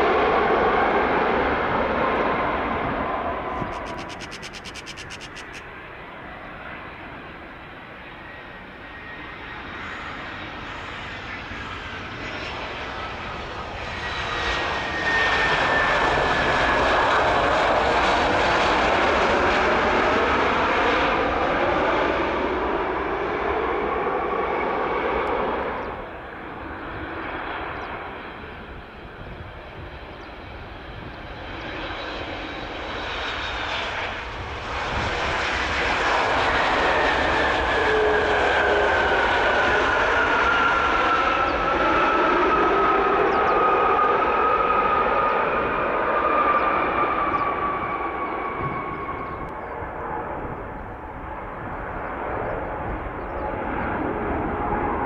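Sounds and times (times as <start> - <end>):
jet airliner engines with falling whine: 0.0 - 55.0.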